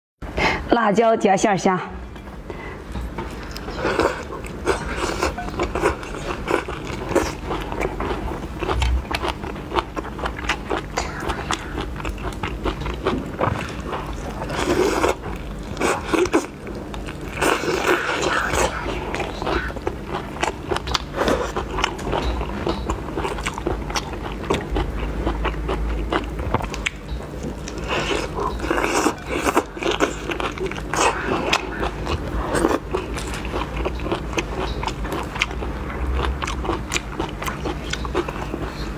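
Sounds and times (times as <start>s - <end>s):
shrimp being bitten and chewed: 3.5s - 38.9s.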